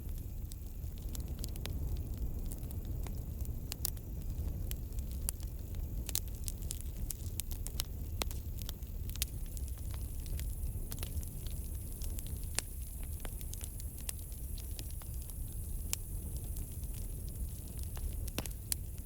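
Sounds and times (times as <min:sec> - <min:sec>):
burning wood popping and snapping: 0:00.0 - 0:19.0
low rumble of flames: 0:00.0 - 0:19.0.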